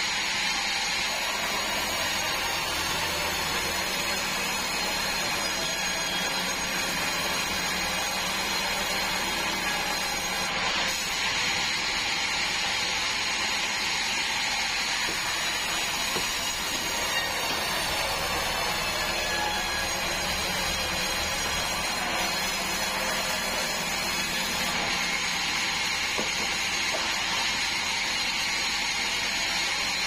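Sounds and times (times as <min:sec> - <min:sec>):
band sawmill running: 0:00.0 - 0:30.0.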